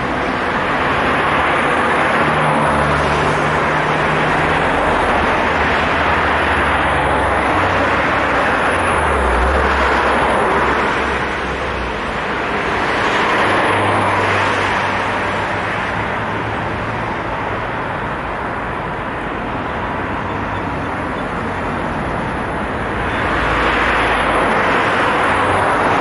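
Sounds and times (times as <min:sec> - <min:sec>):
cars passing by: 0:00.0 - 0:26.0.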